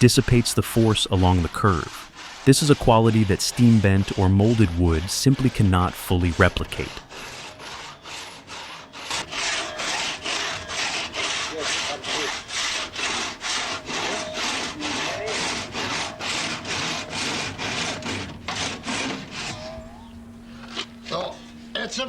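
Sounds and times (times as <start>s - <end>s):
hand saw cutting wood: 0.0s - 20.0s.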